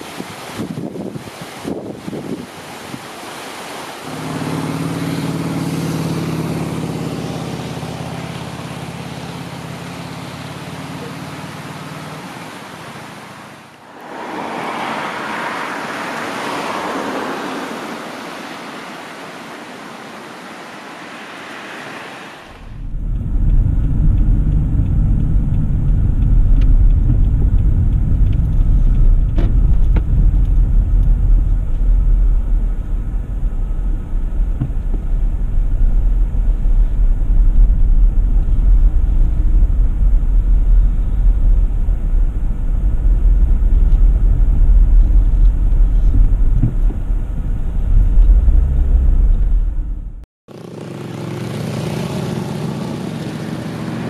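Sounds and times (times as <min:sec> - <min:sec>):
car driving low rumble: 0:03.9 - 0:50.3.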